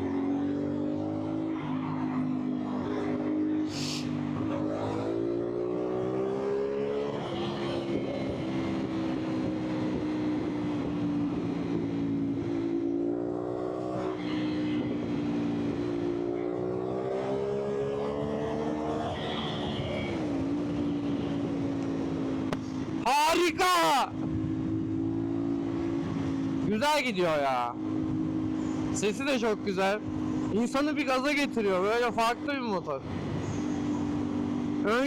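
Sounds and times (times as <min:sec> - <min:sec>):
motorcycle engine accelerating: 0:00.0 - 0:23.1, 0:24.1 - 0:35.0.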